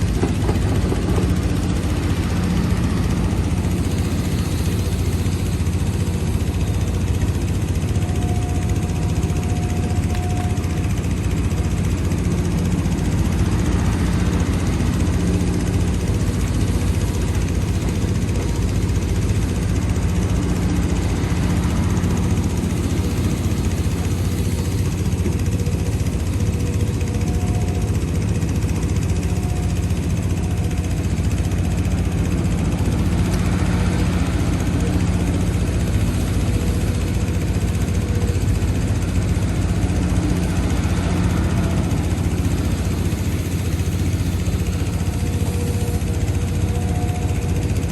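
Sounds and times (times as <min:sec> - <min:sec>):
heavy diesel engine droning: 0:00.0 - 0:47.9.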